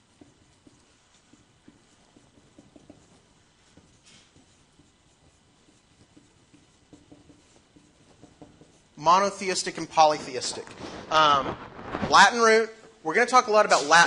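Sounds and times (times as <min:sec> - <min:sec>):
marker scratching on whiteboard: 0:00.0 - 0:12.4.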